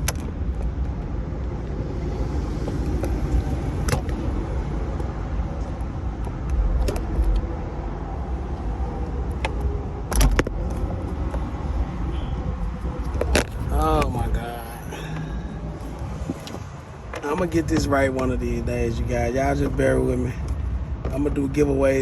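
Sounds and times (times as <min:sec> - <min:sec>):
low rumble: 0:00.0 - 0:21.8.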